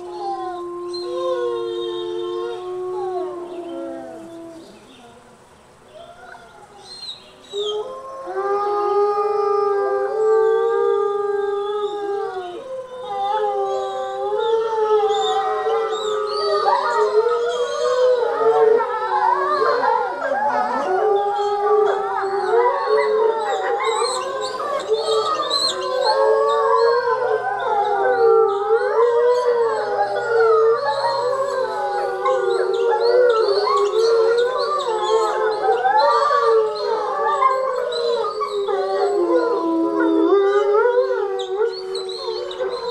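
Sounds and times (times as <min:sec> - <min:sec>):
wolf pack howling: 0:00.0 - 0:05.3, 0:05.9 - 0:42.9.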